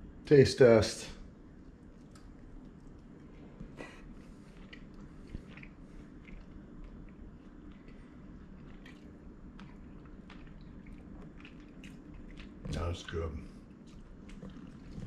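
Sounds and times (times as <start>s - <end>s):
low room hum: 0.0s - 15.0s
man chewing: 1.6s - 15.0s.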